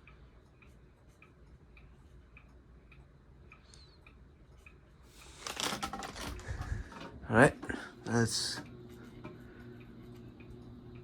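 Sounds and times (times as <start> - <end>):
light ticking of fan: 0.0 - 5.1, 6.4 - 11.0
ceiling fan humming: 0.0 - 11.0.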